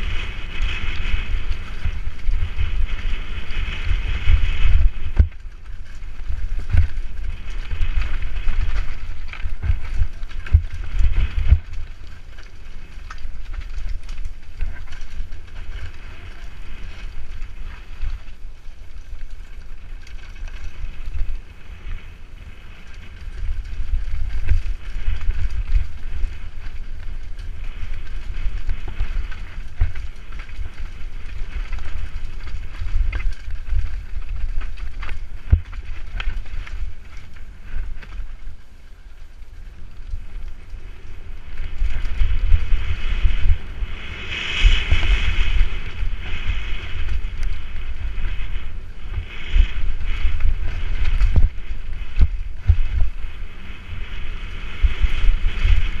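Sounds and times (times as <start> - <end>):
bike rattling over rocky trail: 0.0 - 56.0
wind buffeting microphone: 0.0 - 56.0.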